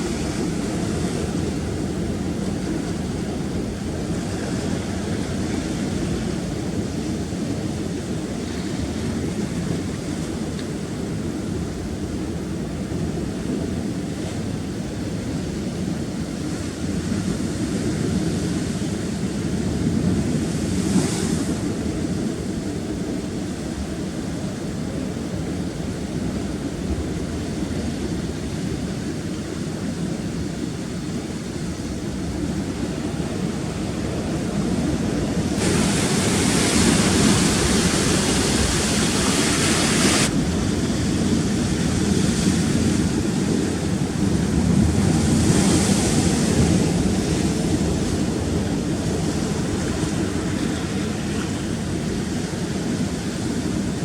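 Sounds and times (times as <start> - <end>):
surf on rocks: 0.0 - 54.0
wind on microphone: 0.0 - 54.0.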